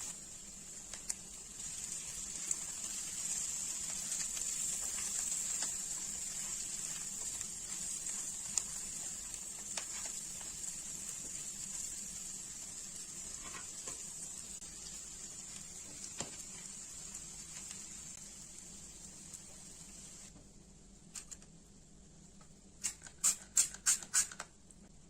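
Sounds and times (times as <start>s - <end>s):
food sizzling in hot oil: 0.0s - 20.3s.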